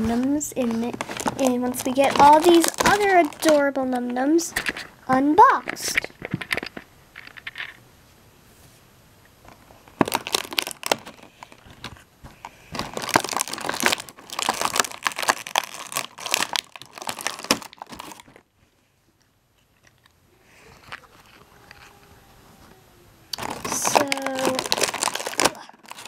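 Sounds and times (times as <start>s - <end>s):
plastic packaging crinkling: 0.0s - 7.8s, 9.4s - 18.5s, 19.6s - 22.0s, 23.3s - 26.0s.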